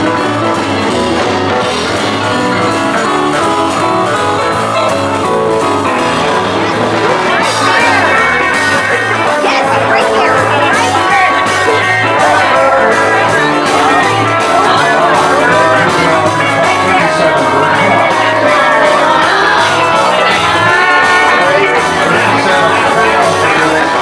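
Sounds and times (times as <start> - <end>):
country rockabilly band playing: 0.0 - 24.0
steady bass beat: 0.0 - 24.0
person singing: 2.6 - 24.0.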